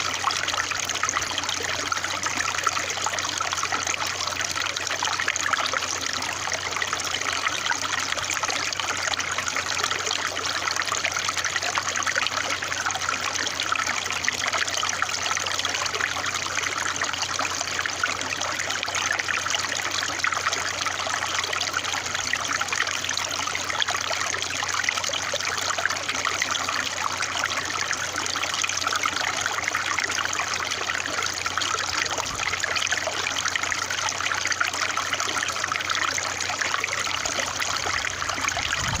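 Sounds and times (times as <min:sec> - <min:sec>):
water trickling: 0:00.0 - 0:39.0.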